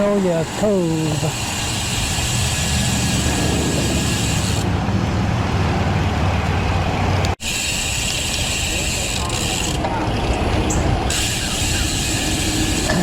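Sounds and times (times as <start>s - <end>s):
tyres on pavement: 0.0s - 13.0s.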